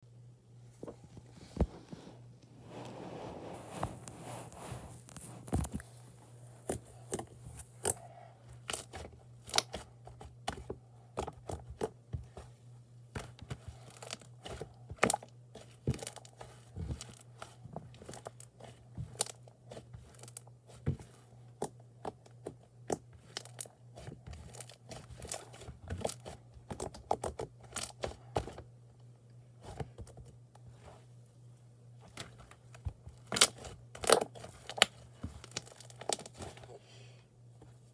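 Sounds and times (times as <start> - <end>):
faint low hum: 0.0 - 37.9.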